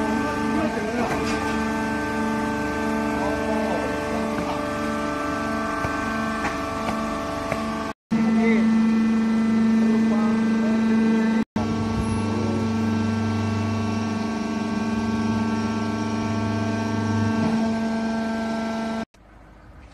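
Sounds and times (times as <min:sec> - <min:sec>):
deeper machine drone: 0:00.0 - 0:19.8
hydraulic power unit humming: 0:00.0 - 0:19.9.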